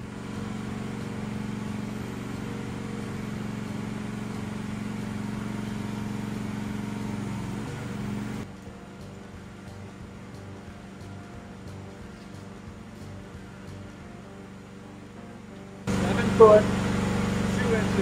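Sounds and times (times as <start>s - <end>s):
excavator engine running: 0.0s - 18.0s.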